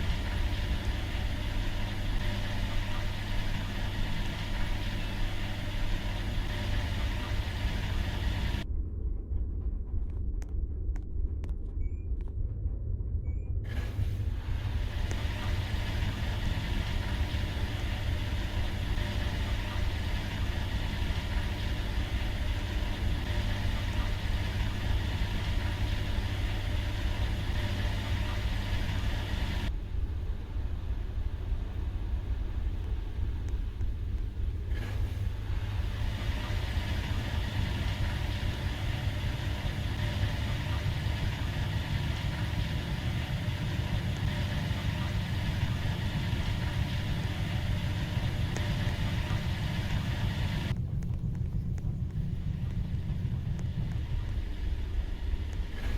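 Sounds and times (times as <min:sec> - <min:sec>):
washing machine humming: 0:00.0 - 0:08.7, 0:13.6 - 0:55.9.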